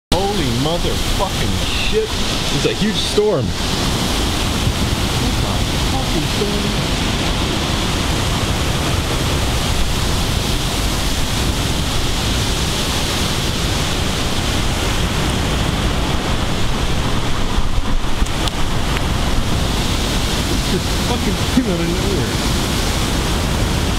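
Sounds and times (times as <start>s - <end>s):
wind: 0.0s - 23.9s
heavy rain downpour: 0.1s - 23.9s.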